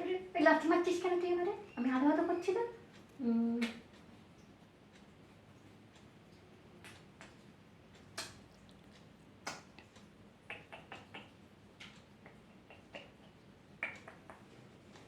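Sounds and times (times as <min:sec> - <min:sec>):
faint clicks and taps: 0:00.6 - 0:15.0.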